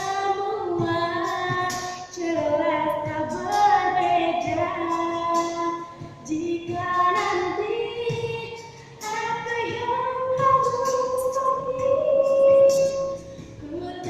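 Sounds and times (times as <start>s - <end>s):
woman singing pop song: 0.0s - 14.0s.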